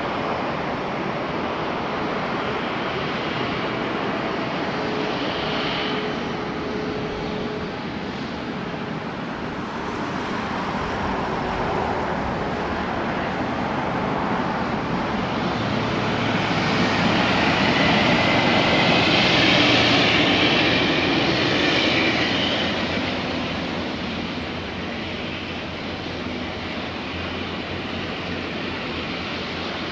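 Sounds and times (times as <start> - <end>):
high engine whine: 0.0 - 29.9
jet airliner passing overhead: 0.0 - 29.9.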